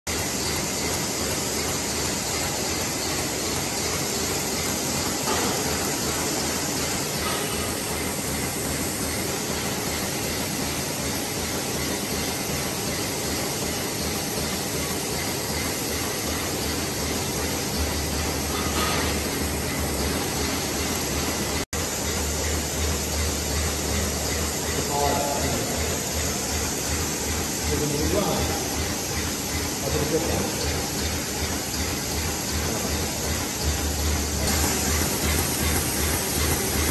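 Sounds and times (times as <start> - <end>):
low machine hum: 0.1 - 36.9
packing machine whirring and rattling: 0.1 - 36.9.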